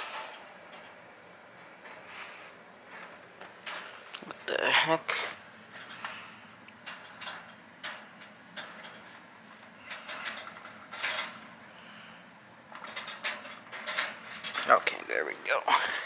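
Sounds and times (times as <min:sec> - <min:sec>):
wire kennel panels clinking: 0:00.0 - 0:02.0, 0:02.8 - 0:11.5, 0:12.7 - 0:15.0.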